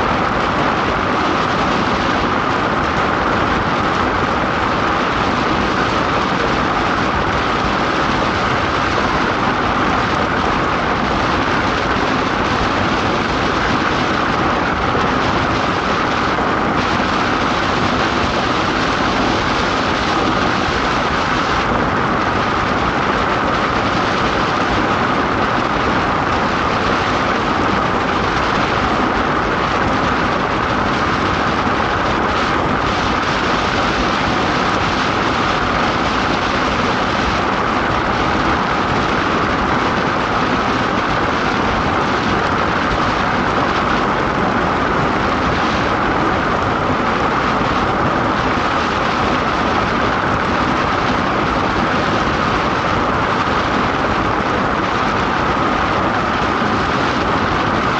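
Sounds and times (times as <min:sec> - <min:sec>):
iceboat runners rushing on ice: 0:00.0 - 0:57.9.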